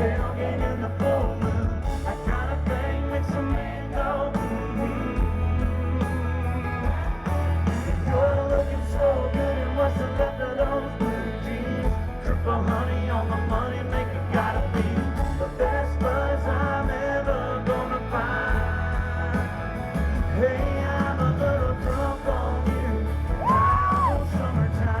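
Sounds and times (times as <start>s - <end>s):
live country rock band: 0.0s - 25.0s
people singing and yelling: 0.0s - 25.0s.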